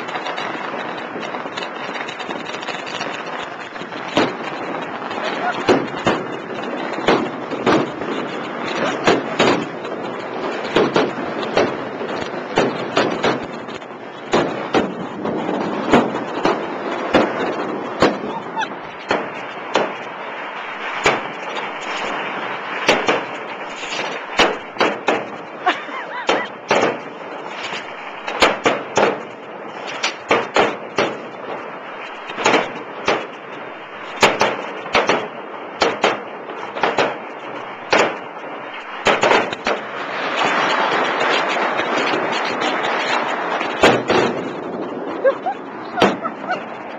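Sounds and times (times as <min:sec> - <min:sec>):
fireworks bangs: 0:00.0 - 0:46.9
fireworks crackle: 0:00.0 - 0:46.9.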